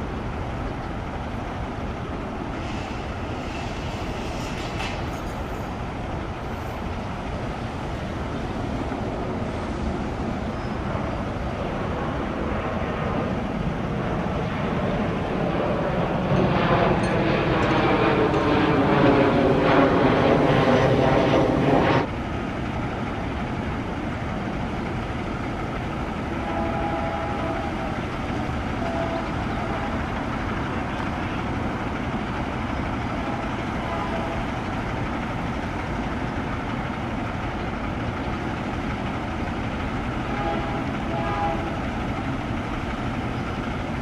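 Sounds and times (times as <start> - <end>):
train rumbling past: 0.0 - 44.0.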